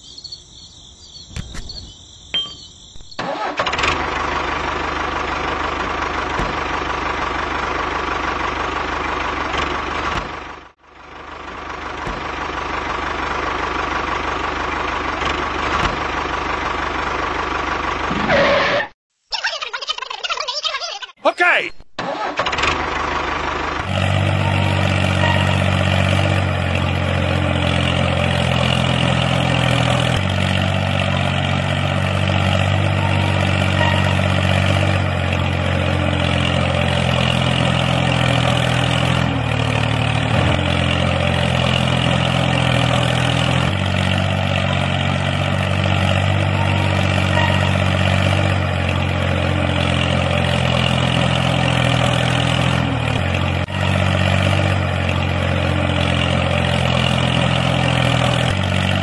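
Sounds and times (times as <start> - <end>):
tractor engine running: 0.0 - 18.7, 21.3 - 59.0.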